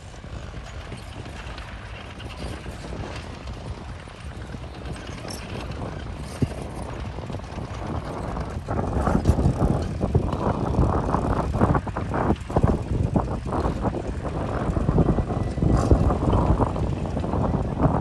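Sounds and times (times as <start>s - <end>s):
heavy machinery engine rumble: 0.0s - 18.0s.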